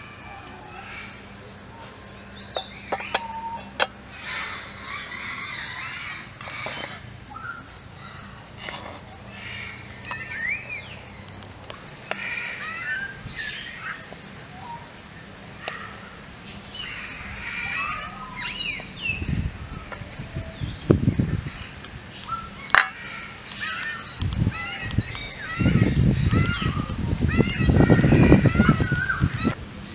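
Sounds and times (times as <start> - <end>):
birds chirping and calling: 0.0 - 29.9.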